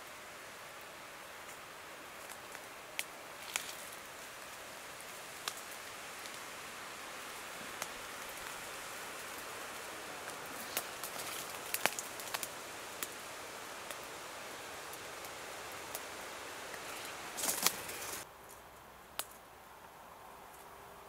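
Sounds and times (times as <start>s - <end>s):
crackles of pine needles and twigs: 0.0s - 20.8s
rustle: 0.0s - 21.0s
steady outdoor hiss: 0.0s - 21.0s.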